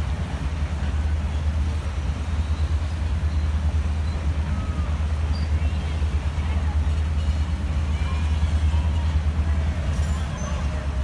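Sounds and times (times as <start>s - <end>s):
river rapids rushing: 0.0s - 11.0s
train cars rolling past: 0.0s - 11.0s.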